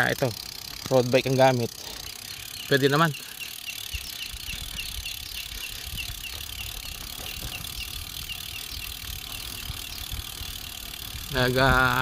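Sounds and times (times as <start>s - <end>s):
bike freewheel hub ticking: 0.0s - 12.0s
wind and tyres on dirt road: 0.0s - 12.0s.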